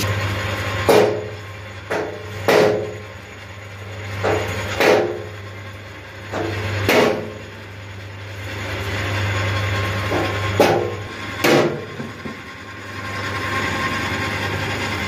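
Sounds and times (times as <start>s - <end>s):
metal lathe motor hum: 0.0s - 15.0s.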